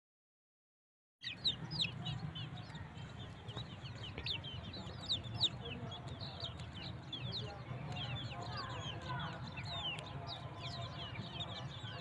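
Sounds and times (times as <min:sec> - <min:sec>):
chicks peeping: 0:01.2 - 0:12.0.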